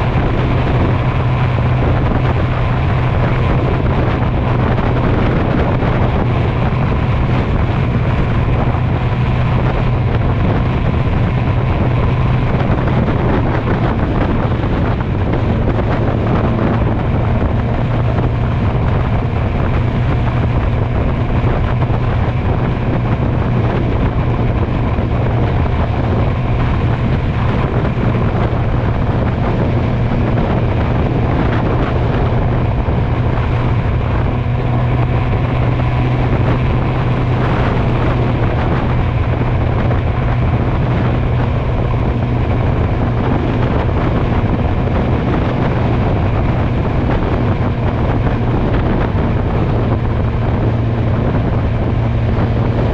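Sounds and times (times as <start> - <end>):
motorcycle engine cruising: 0.0 - 52.9
wind rushing over microphone: 0.0 - 52.9.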